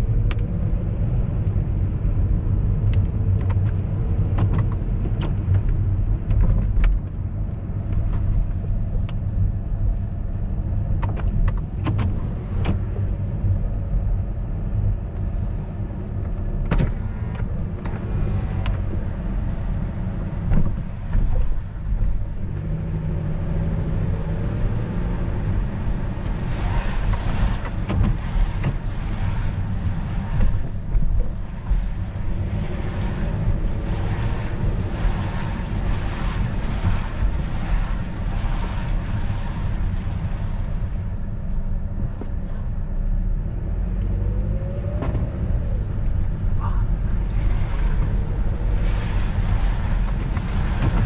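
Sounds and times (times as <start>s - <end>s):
low road rumble: 0.0s - 51.0s.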